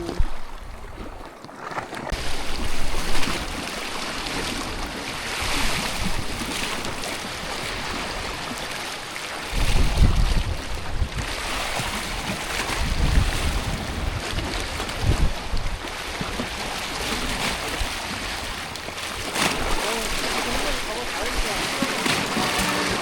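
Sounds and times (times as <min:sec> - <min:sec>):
sea waves washing against rocks: 0:00.0 - 0:23.0
wind buffeting microphone: 0:02.1 - 0:08.7, 0:09.4 - 0:23.0.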